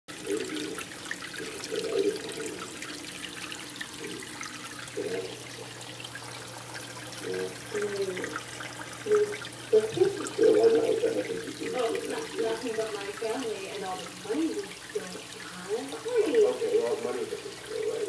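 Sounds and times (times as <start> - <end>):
aquarium filter water splashing: 0.1 - 18.0.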